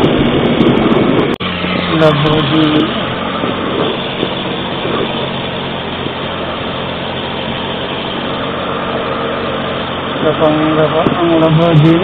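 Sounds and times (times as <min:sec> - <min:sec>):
motorcycle engine idling close: 0:00.0 - 0:12.0
traffic engines idling: 0:00.0 - 0:12.0.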